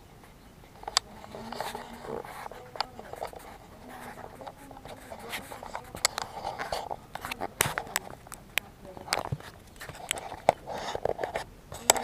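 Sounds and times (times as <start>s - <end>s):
scratchy handling rustle: 0.7s - 12.0s.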